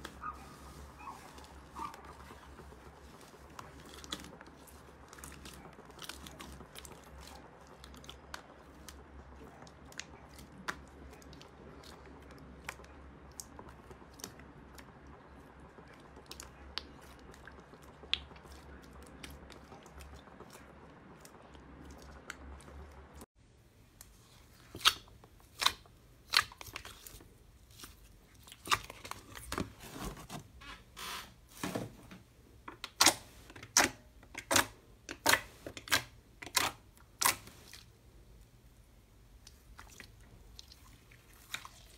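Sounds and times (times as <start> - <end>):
slime squishing: 0.0 - 23.2, 24.0 - 30.4, 32.9 - 38.0, 39.3 - 41.9.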